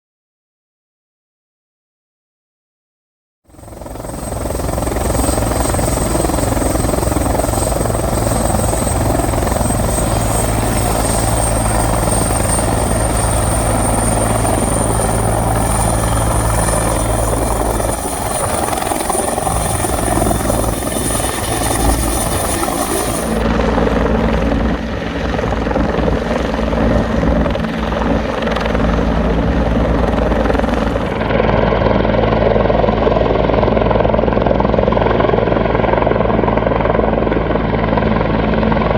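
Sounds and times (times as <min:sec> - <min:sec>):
high turbine whine: 0:03.5 - 0:35.0
helicopter rotor beating: 0:03.5 - 0:38.9.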